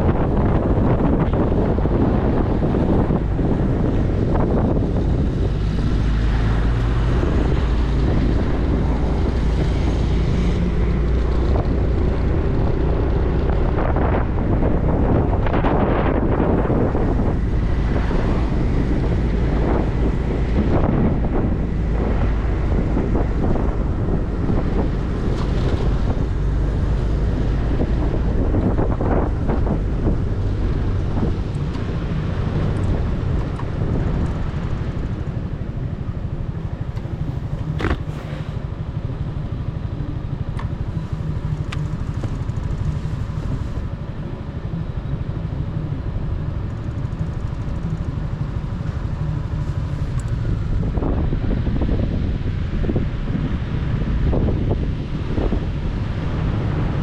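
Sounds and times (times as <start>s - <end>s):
motorcycle engine running: 0.0s - 57.0s
wind rumbling on microphone: 0.0s - 57.0s.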